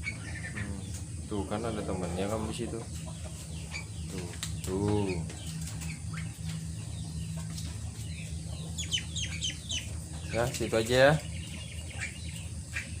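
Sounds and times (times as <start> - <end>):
caged birds chirping: 0.0 - 13.0
steady low hum: 0.0 - 13.0
wings fluttering: 0.0 - 13.0.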